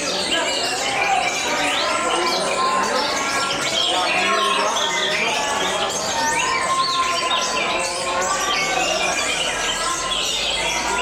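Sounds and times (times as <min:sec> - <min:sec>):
canaries singing: 0:00.0 - 0:11.0.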